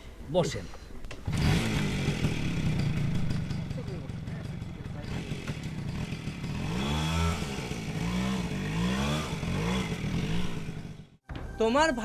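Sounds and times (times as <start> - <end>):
motorcycle engine revving: 1.2 - 11.2.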